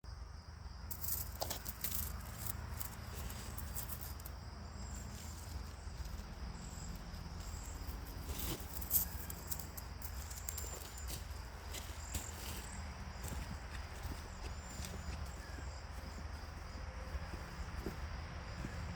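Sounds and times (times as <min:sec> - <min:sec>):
birds chirping: 0:02.8 - 0:18.9.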